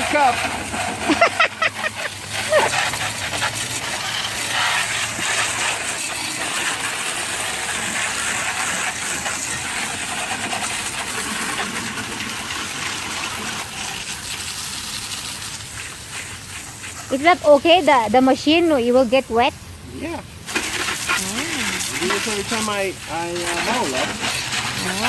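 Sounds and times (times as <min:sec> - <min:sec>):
garden hose spraying water: 0:00.0 - 0:25.0.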